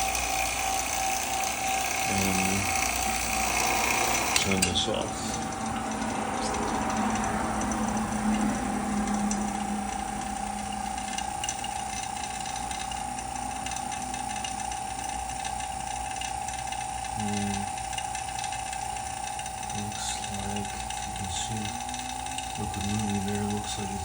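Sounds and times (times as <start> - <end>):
low vacuum pump hum: 0.0 - 24.0
vacuum pump whine: 0.0 - 24.0.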